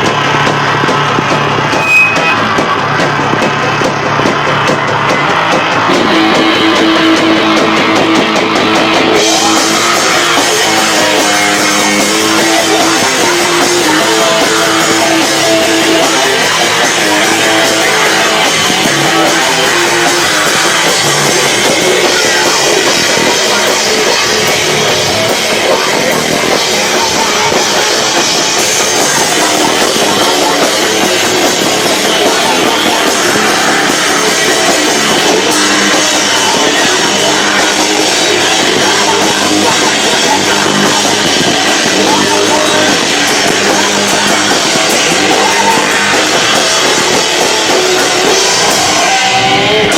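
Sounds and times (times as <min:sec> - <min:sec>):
loud live rock band: 0:00.0 - 0:49.9.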